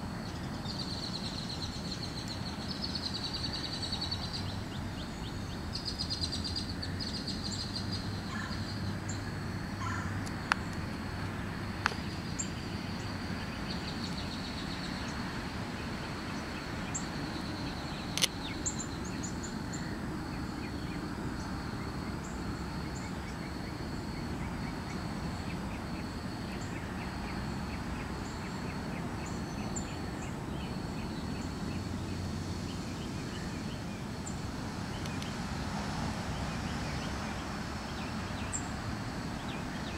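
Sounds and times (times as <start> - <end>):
low steady hiss: 0.0 - 39.9.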